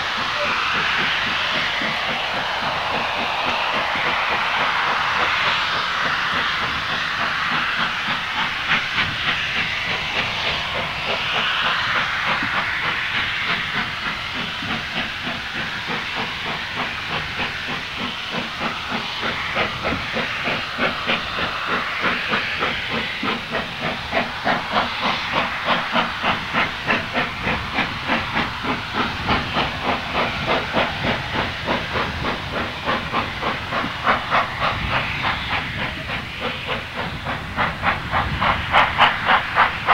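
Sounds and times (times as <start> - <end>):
hiss of steam: 0.0 - 39.9
steam locomotive chuffing: 0.0 - 39.9.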